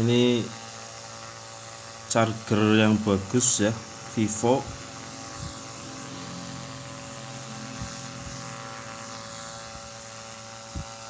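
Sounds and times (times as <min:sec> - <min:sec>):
inverter electrical hum: 0:00.0 - 0:11.0
small motor running: 0:00.0 - 0:11.0.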